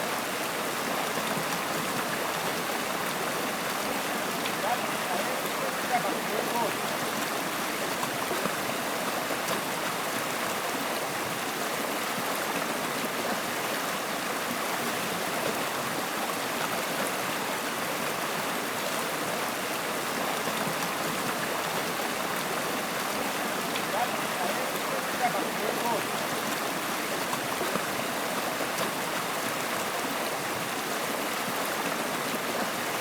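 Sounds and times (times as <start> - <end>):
running water: 0.0 - 33.0.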